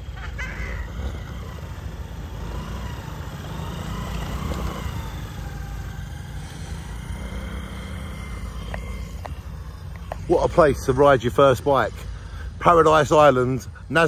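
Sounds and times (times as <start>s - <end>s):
motor scooter engine running: 0.0s - 13.4s.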